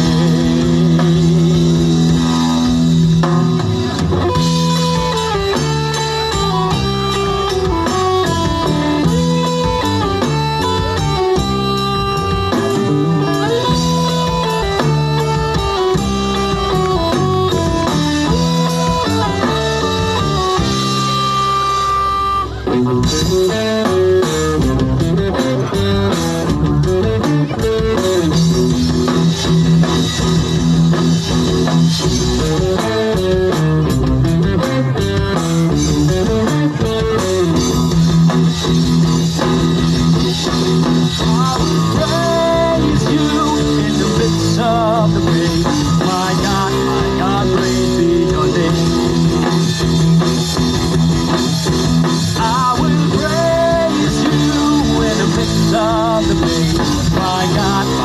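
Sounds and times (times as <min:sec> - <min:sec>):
bass and drums: 0:00.0 - 0:58.0
rock guitar lead line: 0:00.0 - 0:58.0.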